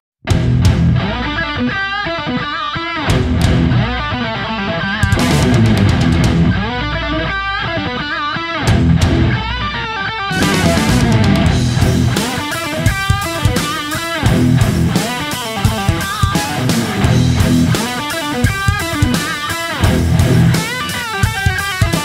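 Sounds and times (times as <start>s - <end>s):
rock music: 0.2s - 22.0s
electric guitar lead melody: 0.3s - 22.0s.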